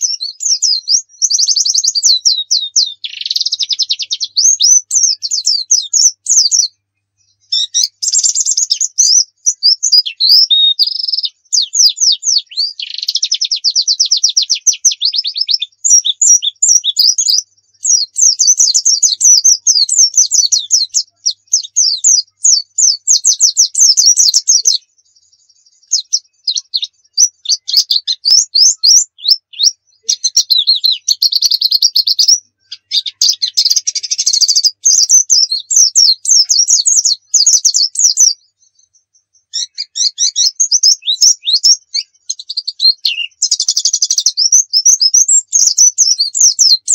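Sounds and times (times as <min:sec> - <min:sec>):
white-eye bird singing trills: 0:00.0 - 0:46.9.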